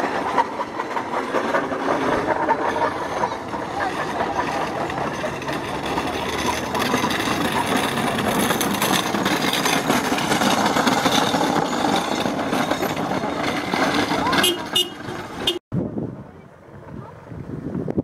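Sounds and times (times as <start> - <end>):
cart wheels rolling on gravel: 0.0 - 15.6.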